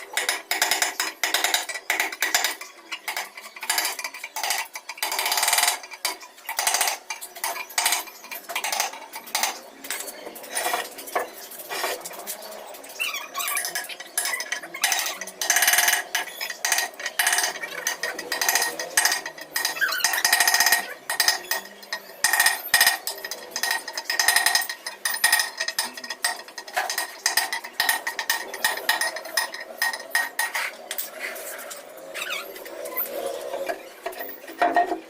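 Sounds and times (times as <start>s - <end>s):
hard objects scraping and clinking: 0.0s - 35.0s.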